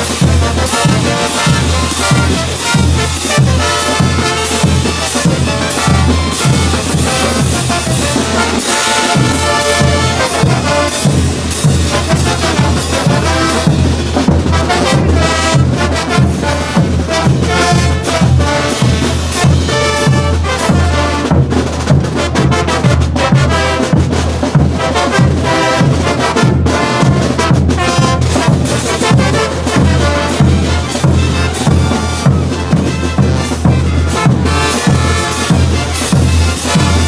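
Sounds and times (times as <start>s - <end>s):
brass band playing: 0.0s - 37.0s
drum and cymbal beat: 0.0s - 37.0s.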